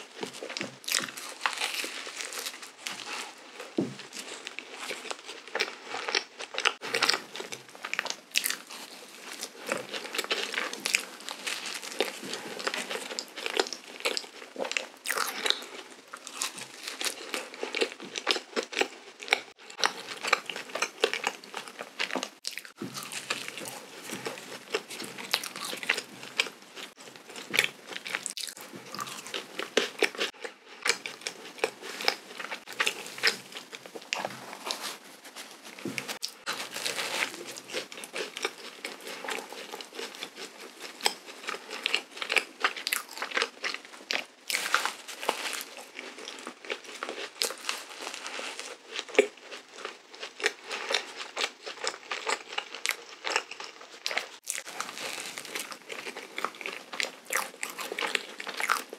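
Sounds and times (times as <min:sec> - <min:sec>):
chewing and biting donut: 0:00.0 - 0:58.9.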